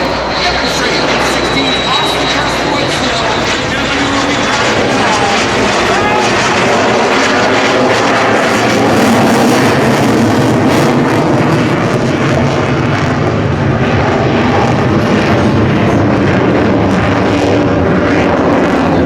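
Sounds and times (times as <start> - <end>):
jet engine afterburner roar: 0.0 - 19.0.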